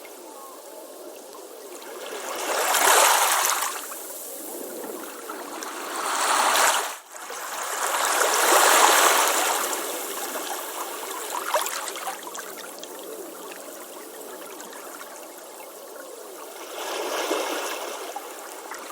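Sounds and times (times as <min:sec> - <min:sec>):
ocean waves washing onto beach: 0:01.7 - 0:18.9.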